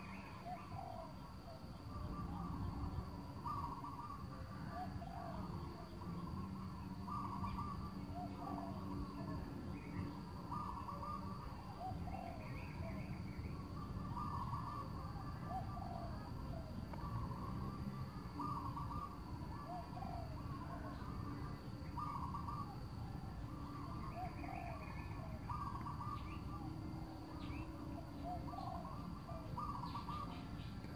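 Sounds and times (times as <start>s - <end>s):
birds warbling: 0.0s - 30.9s.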